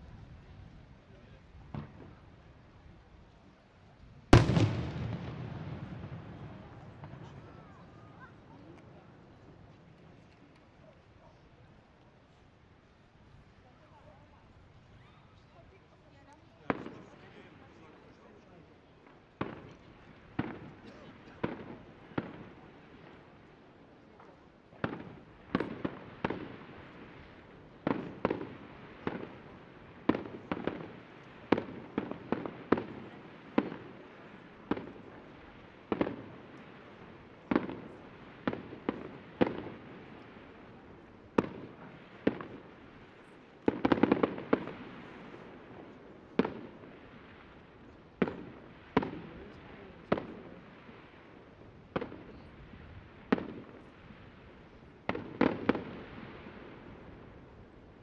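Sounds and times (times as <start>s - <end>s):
fireworks bursting: 1.6s - 2.7s, 4.3s - 11.1s, 15.7s - 58.0s.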